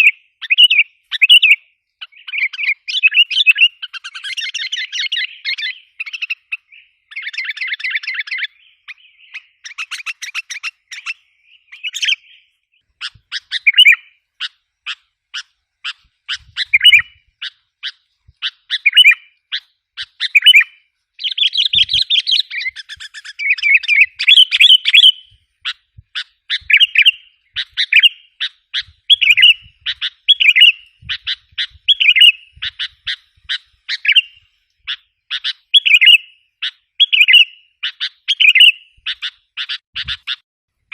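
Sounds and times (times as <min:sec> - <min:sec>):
bulbul chattering calls: 0:00.0 - 0:40.4.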